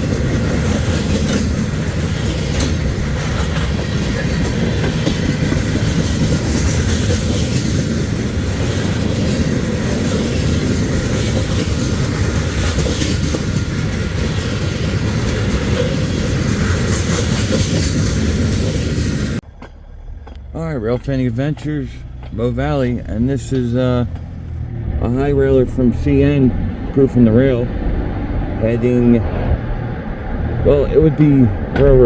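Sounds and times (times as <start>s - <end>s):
freight train cars rumbling past: 0.0s - 32.0s
wheels clicking over rail joints: 0.0s - 32.0s.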